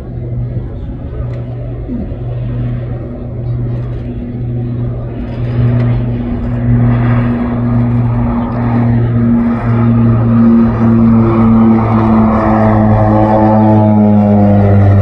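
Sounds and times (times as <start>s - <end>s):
propeller plane flying past: 0.0s - 15.0s.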